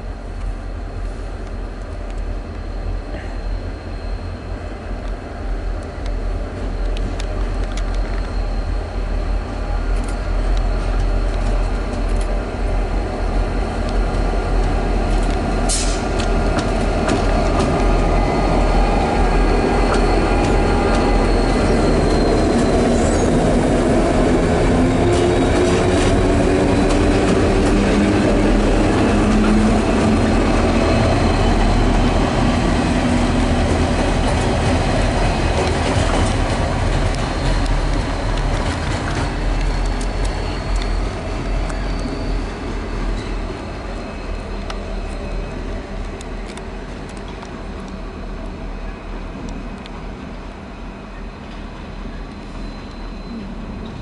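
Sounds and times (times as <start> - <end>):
diesel locomotive engines under load: 0.0 - 54.0
steel wheels on rails: 0.4 - 54.0.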